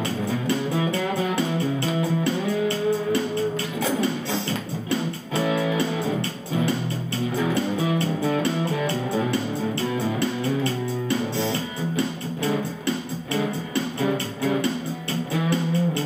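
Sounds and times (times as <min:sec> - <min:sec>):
overdriven acoustic guitar melody: 0:00.0 - 0:16.0.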